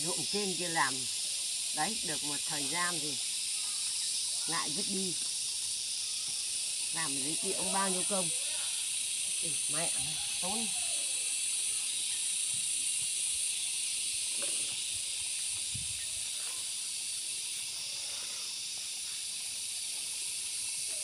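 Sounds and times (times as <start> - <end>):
steady high-pitched hiss: 0.0 - 21.0.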